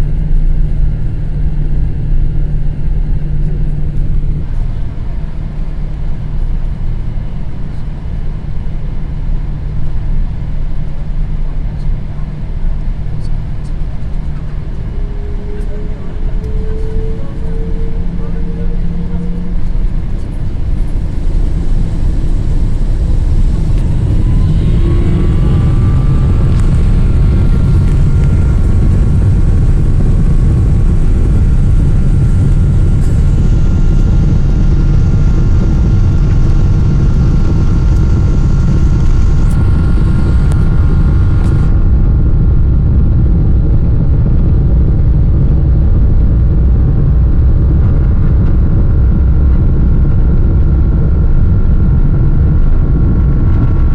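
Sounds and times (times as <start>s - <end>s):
airliner cabin rumble: 0.0s - 53.9s
jet engine whine: 0.0s - 53.9s.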